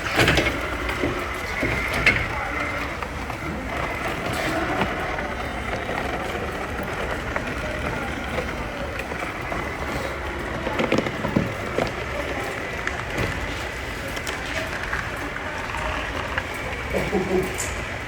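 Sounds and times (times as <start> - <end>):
noisy background: 0.0 - 18.0.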